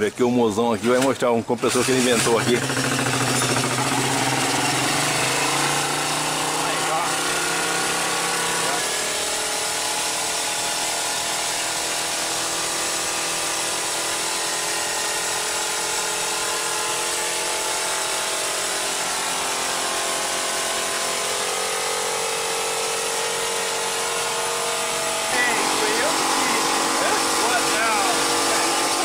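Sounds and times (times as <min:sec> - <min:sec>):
air compressor running: 0:01.6 - 0:29.0
motorcycle engine running: 0:01.7 - 0:29.0.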